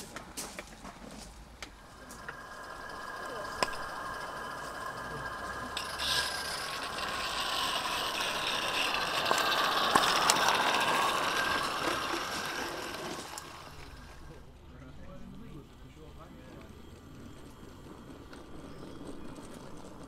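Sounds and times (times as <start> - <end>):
model train clattering: 0.0 - 20.0.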